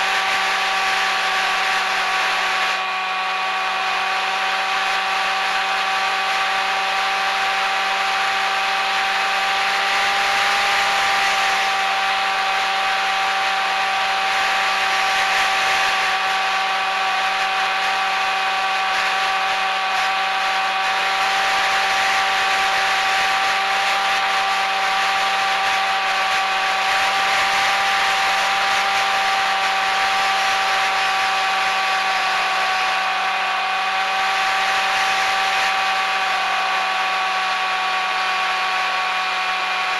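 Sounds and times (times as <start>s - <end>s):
electric motors and propellers whining: 0.0s - 39.9s.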